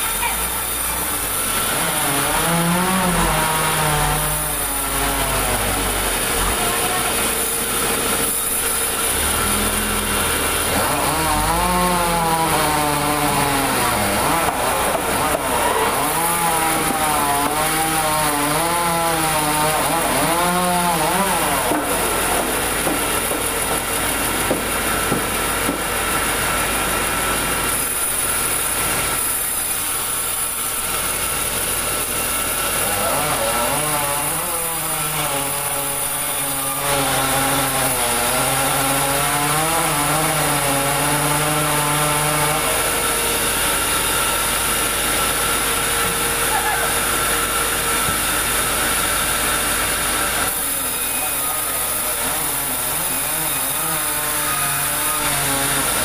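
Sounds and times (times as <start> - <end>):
wavering saw whine: 0.0 - 25.0, 26.2 - 56.0
band saw cutting log: 0.0 - 56.0.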